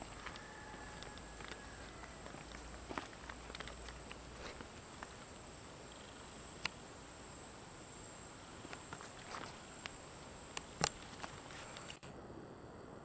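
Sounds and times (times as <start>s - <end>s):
high-pitched insect buzz: 0.0s - 13.0s.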